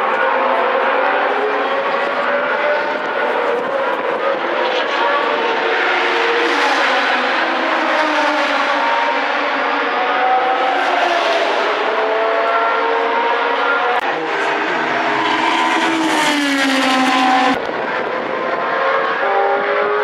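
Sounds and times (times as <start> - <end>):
racing car engines revving: 0.0 - 20.0.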